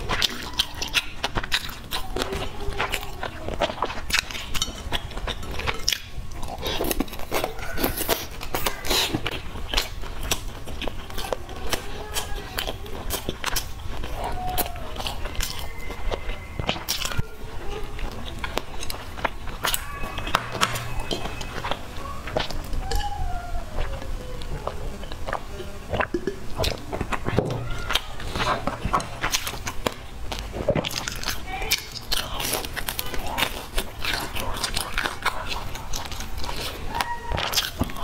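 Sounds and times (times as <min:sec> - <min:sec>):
crunchy chewing: 0:00.0 - 0:38.0.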